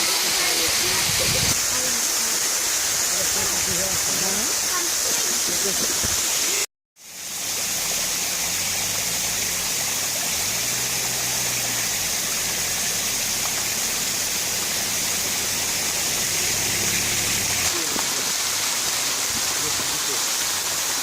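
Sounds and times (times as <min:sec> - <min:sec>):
waterfall pouring: 0:00.0 - 0:21.0.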